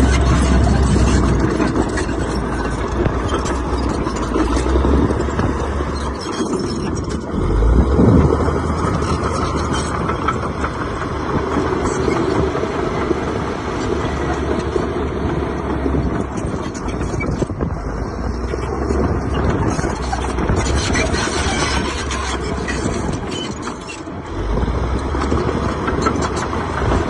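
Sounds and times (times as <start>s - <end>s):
heavy diesel engine droning: 0.0s - 27.0s.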